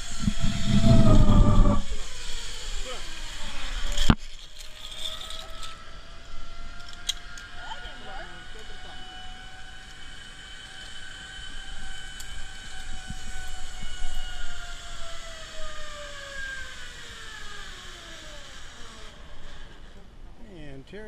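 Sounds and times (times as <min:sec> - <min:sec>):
zip-line pulleys whining on cable: 0:00.0 - 0:20.3.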